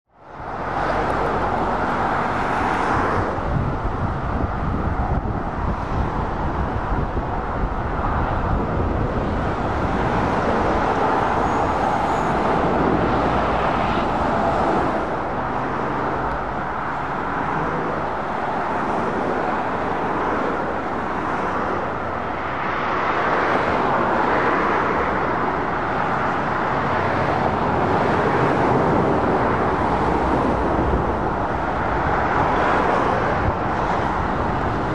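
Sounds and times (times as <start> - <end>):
lorries and cars passing: 0.1 - 34.9.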